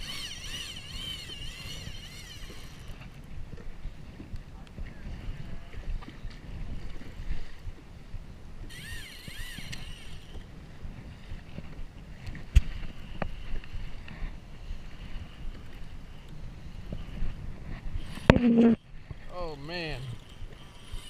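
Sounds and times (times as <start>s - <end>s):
water moving around kayak: 0.0s - 21.0s
wind rumbling on microphone: 0.0s - 21.0s.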